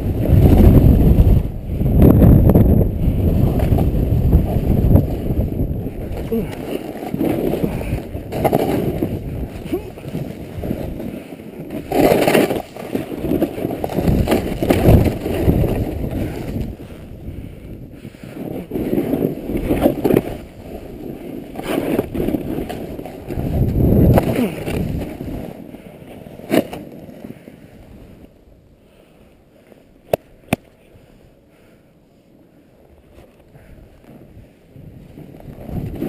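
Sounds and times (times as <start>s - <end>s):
snowboard carving through snow: 0.0s - 31.2s, 32.2s - 36.0s.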